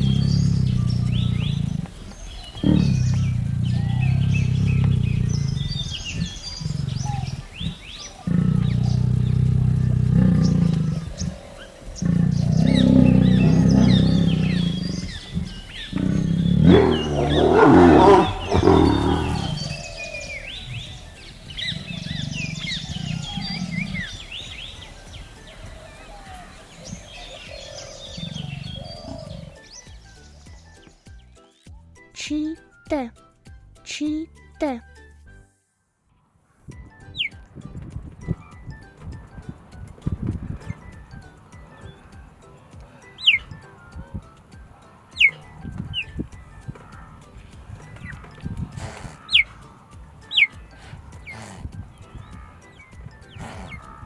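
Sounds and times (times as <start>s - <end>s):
tiger growling and roaring: 0.0s - 29.8s, 40.0s - 54.0s
birds chirping: 0.0s - 33.2s, 36.2s - 54.0s
soft background music: 0.0s - 54.0s.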